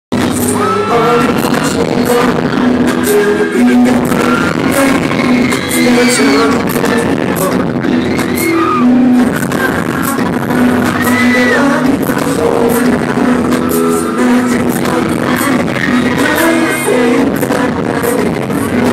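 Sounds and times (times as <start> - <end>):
pop ballad through concert speakers: 0.1 - 18.9
crowd screaming: 0.2 - 18.9.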